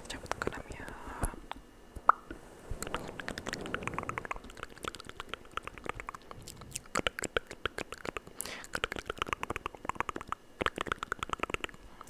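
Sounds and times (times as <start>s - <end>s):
wet mouth clicks and smacks: 1.5s - 11.9s.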